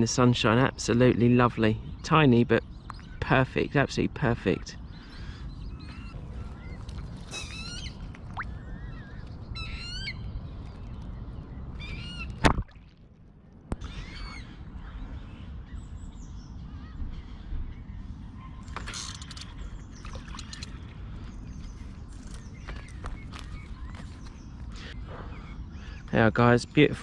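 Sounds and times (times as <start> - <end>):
songbirds singing: 0.0 - 12.8, 13.8 - 27.0.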